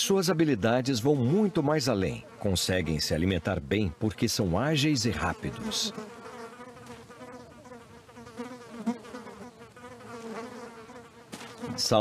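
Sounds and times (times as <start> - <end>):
flies buzzing: 1.3 - 12.0.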